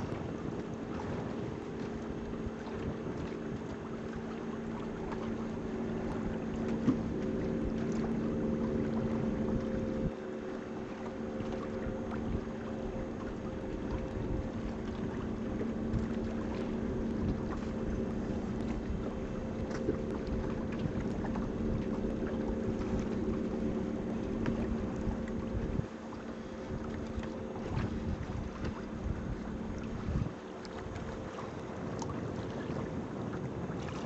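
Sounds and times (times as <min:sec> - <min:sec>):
boat motor humming: 0:00.0 - 0:34.0
water rushing: 0:00.0 - 0:34.0
wind: 0:00.0 - 0:34.0.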